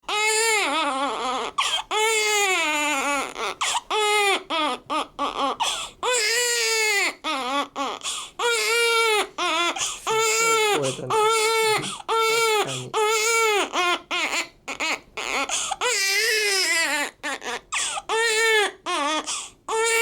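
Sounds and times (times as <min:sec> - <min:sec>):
newborn baby crying: 0:00.0 - 0:20.0.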